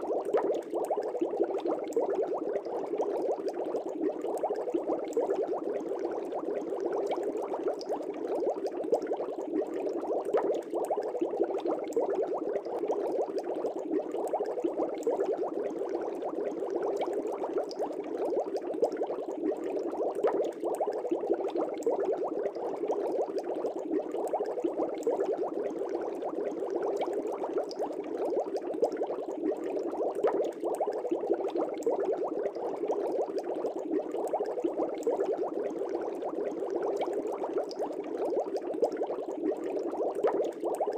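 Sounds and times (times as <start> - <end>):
aquarium air bubbles bubbling: 0.0 - 40.9.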